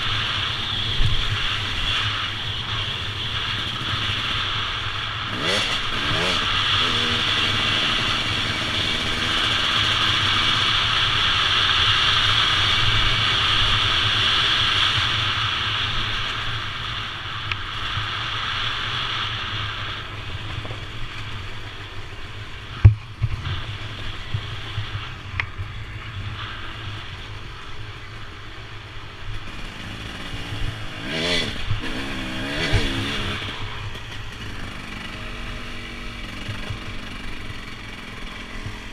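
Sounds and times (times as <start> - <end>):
motorcycle engine revving: 0.0 - 38.9
rushing noise: 0.0 - 38.9.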